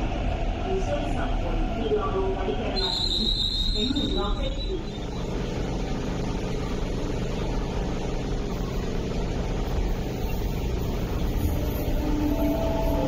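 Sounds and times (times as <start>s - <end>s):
train rumbling into station: 0.0s - 13.0s.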